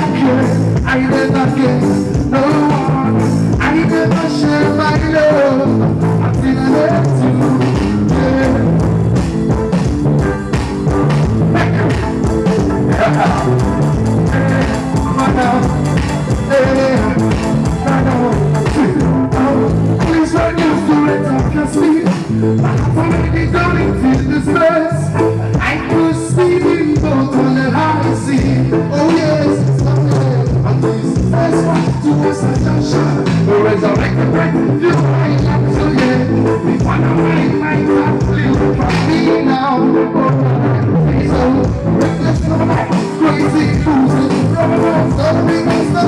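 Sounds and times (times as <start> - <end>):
live band with male singer: 0.0 - 46.0.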